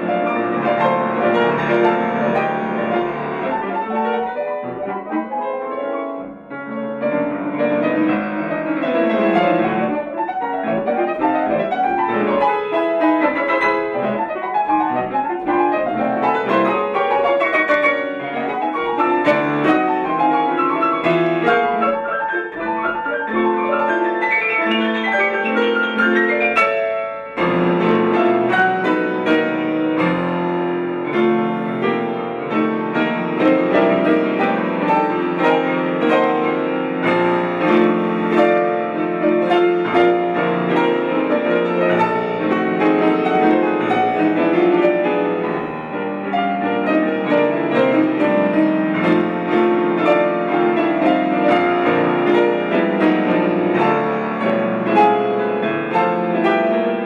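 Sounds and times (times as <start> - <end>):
solo grand piano: 0.0 - 57.0.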